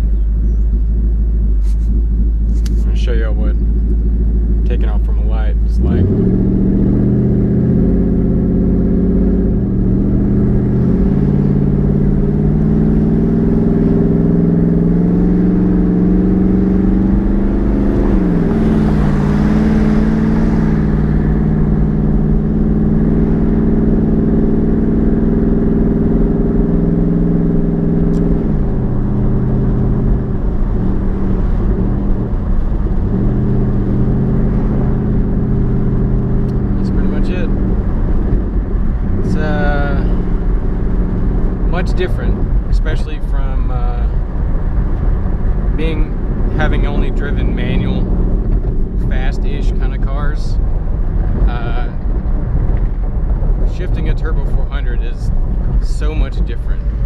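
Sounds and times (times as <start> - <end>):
car engine accelerating through gears: 0.0 - 57.0.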